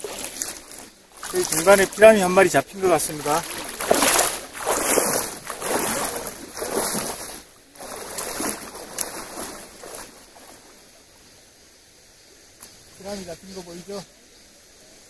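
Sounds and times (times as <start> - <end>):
wading splashes in stream: 0.0 - 14.0
stream rushing: 0.0 - 15.0.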